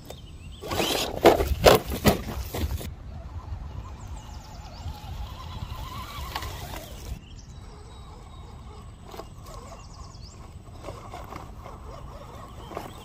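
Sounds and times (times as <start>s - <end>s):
wind rumble on microphone: 0.5s - 13.0s
small electric motor whining: 0.6s - 13.0s.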